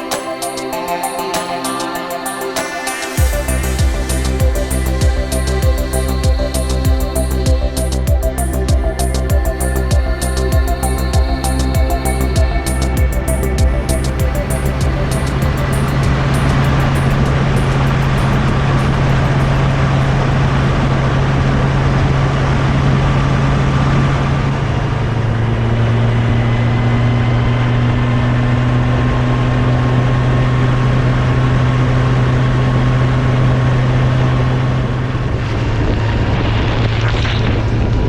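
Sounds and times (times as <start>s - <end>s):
wind on microphone: 3.2s - 38.0s.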